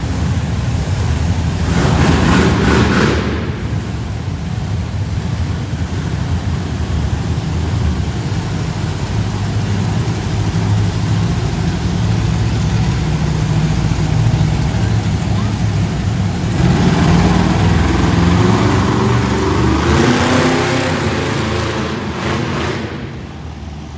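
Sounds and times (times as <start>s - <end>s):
loud burst of noise: 0.0s - 9.2s, 13.1s - 23.9s
monster truck engine rumbling: 0.0s - 23.9s.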